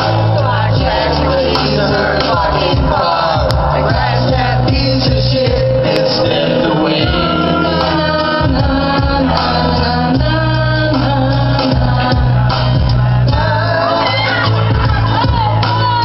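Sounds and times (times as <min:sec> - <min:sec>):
long held bass notes: 0:00.0 - 0:16.0
music with singing: 0:00.0 - 0:16.0.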